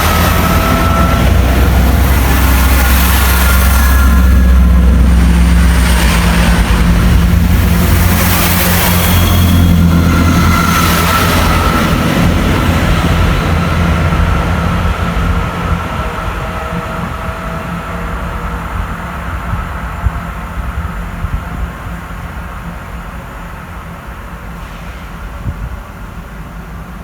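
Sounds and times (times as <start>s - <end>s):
diesel train engine and wheel rumble: 0.0s - 27.0s.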